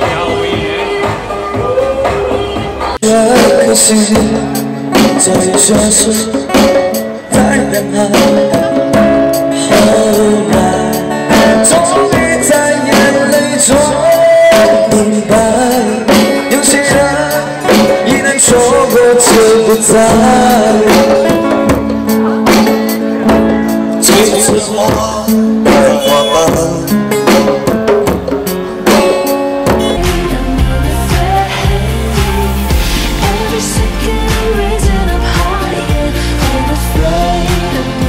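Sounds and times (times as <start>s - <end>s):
acoustic guitar: 0.0s - 38.0s
man singing: 0.0s - 38.0s.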